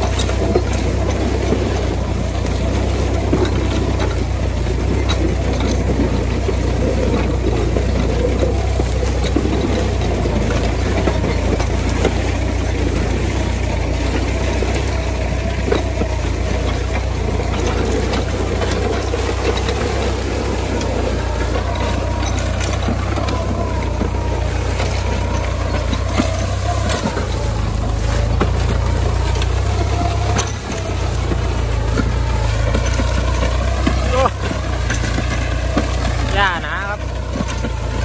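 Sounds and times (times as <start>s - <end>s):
diesel tractor engine under load: 0.0s - 38.0s
discs cutting soil and stalks: 0.0s - 38.0s.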